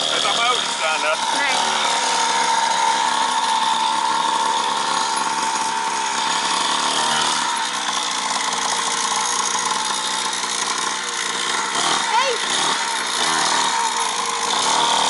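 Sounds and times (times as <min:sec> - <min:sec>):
mini dirt bike engine running: 0:00.0 - 0:15.0.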